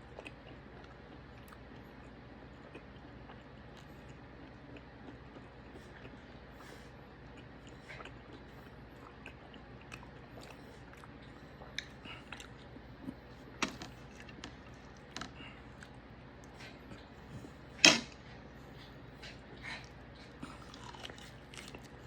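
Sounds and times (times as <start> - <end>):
chewing mouth clicks and smacks: 0.1 - 17.5, 18.8 - 22.0.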